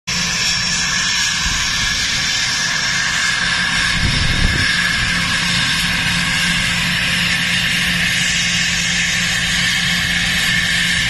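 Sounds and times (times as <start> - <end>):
high whistling jet whine: 0.1 - 11.0
jet taxiing: 0.1 - 11.0.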